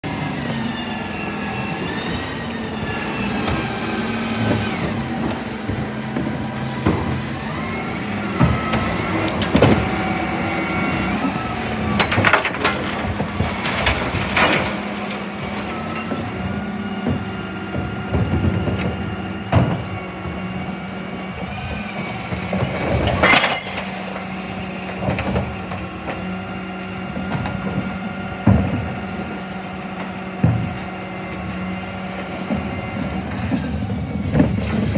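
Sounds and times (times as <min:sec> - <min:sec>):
bin lift working: 0:00.0 - 0:34.9
diesel engine running: 0:00.0 - 0:34.9
wheelie bins clattering: 0:03.0 - 0:34.9.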